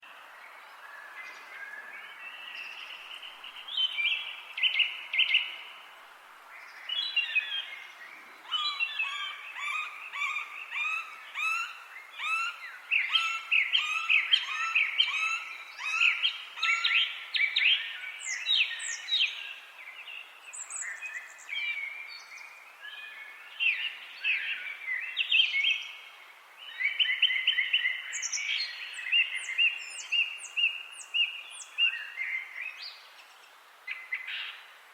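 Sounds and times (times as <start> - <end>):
faint background hiss: 0.0 - 34.9
songbirds singing: 0.0 - 34.9.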